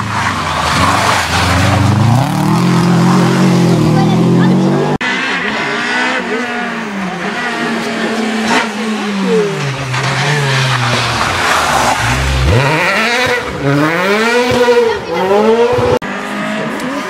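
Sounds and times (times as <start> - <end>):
rally car engine revving: 0.0 - 17.0
tyres skidding: 0.0 - 17.0.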